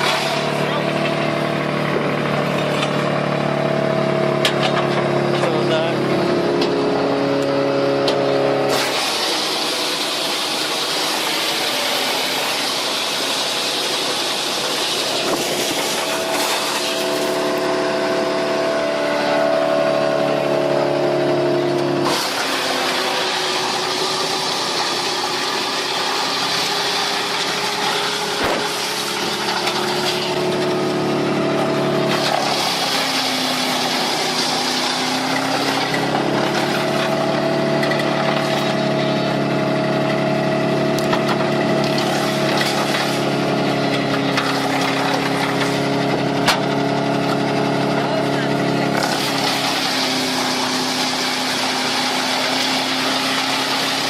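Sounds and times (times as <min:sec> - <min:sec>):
wood chipper engine hum: 0:00.0 - 0:54.0.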